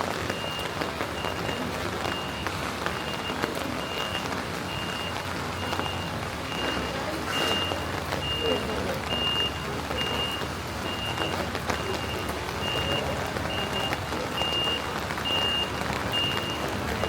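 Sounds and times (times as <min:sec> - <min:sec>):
city street noise: 0:00.0 - 0:17.0
reversing alarm beeping: 0:00.3 - 0:17.0.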